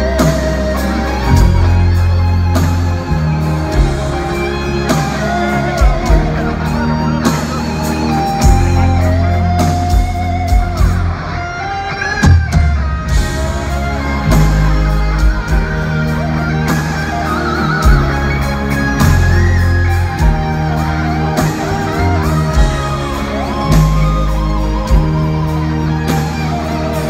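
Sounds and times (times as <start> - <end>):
heavy metal band playing live: 0.0 - 27.0
wavering held lead guitar line: 0.0 - 27.0.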